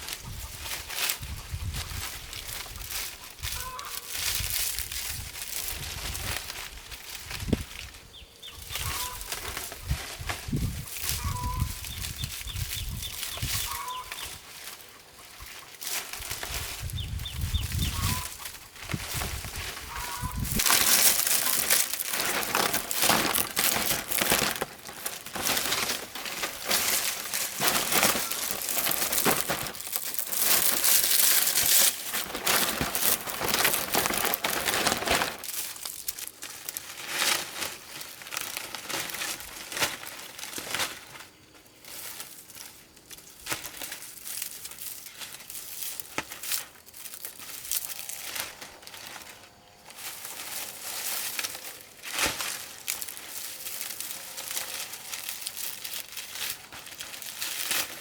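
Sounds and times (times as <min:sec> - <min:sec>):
dry material crackling: 0:08.6 - 0:58.0.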